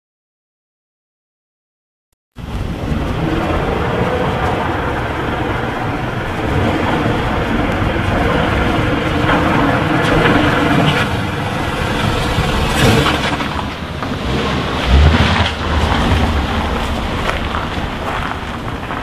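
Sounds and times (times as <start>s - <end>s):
car driving by: 2.4s - 19.0s.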